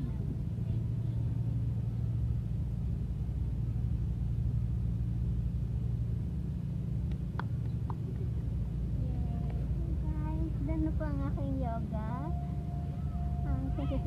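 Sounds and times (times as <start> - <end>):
low city background rumble: 0.0 - 14.0.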